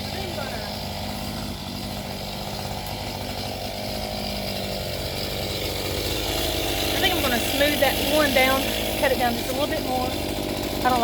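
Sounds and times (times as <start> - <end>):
chainsaw running: 0.0 - 11.0.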